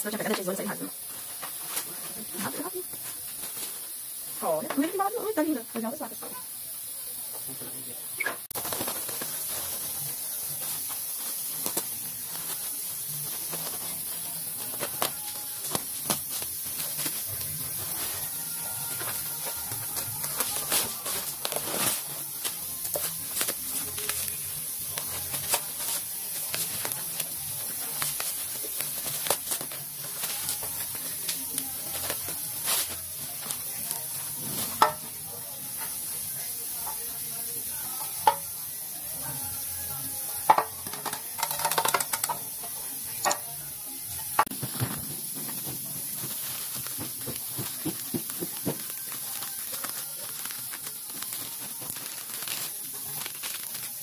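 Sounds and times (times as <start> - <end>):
bubble wrap crinkling: 0.0 - 6.7, 8.4 - 54.0.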